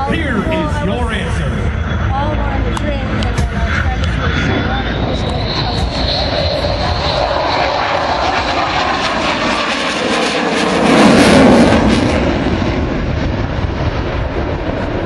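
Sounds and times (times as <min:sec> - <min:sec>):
propeller aircraft flying past: 0:00.0 - 0:15.0.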